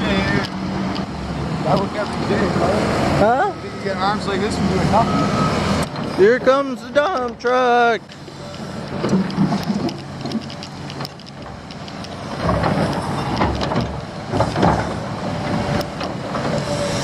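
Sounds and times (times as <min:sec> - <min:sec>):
diesel truck engine rumbling: 0:00.0 - 0:17.0
truck clanks and rattles: 0:00.0 - 0:17.0.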